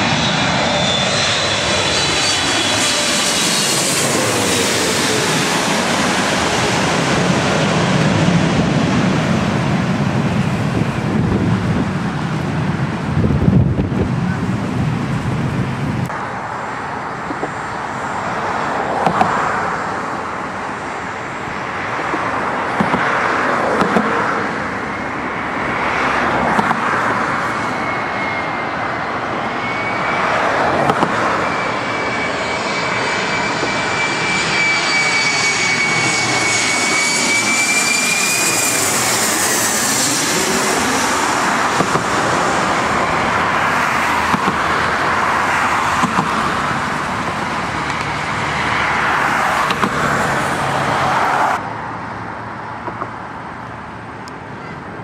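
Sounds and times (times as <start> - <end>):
jet airliner passing overhead: 0.0 - 55.0.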